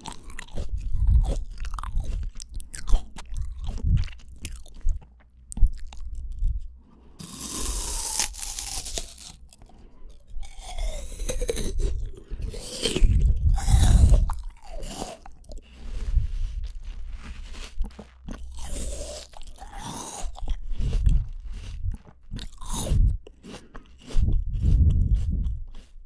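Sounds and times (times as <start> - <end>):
wet crunching of fruit chewing: 0.0 - 26.0.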